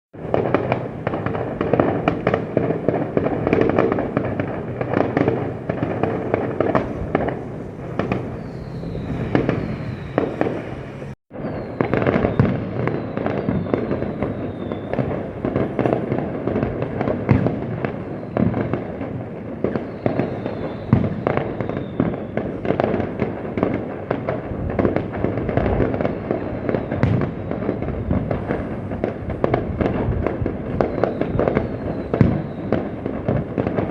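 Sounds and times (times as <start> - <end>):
falling firework whistles: 0.2 - 23.7, 24.8 - 33.9
fireworks bangs and crackles: 0.2 - 33.9.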